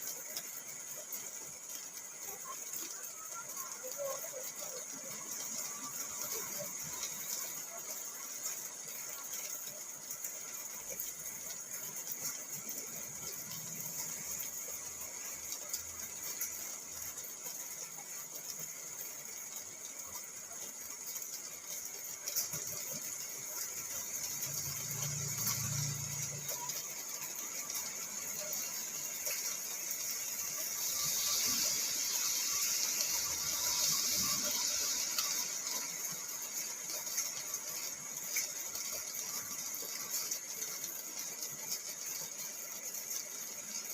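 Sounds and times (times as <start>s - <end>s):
rain pattering on car roof: 0.0s - 43.9s.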